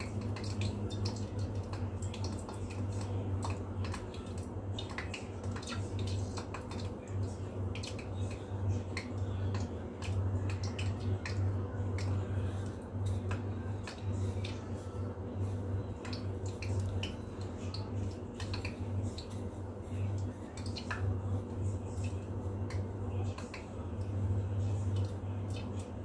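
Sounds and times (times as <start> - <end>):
dough balls clicking on a plate: 0.0 - 14.8, 15.9 - 26.0
steady low hum: 0.0 - 26.0.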